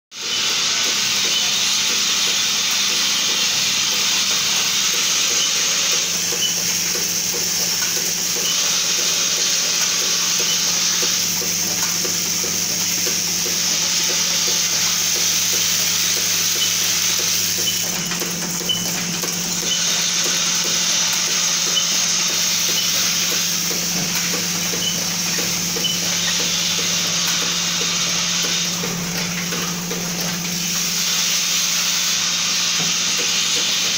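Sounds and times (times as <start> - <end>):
small parts rattling hiss: 0.2 - 33.9
vibratory feeders humming: 0.2 - 33.9.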